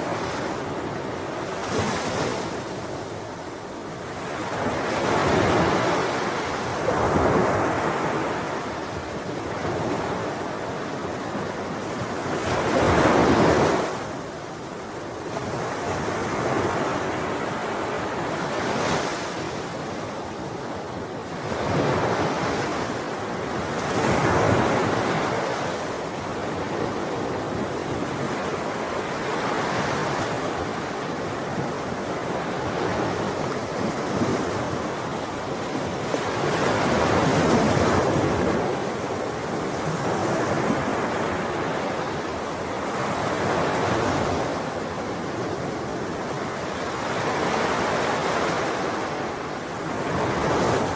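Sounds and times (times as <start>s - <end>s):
ocean waves crashing on shore: 0.0s - 50.9s.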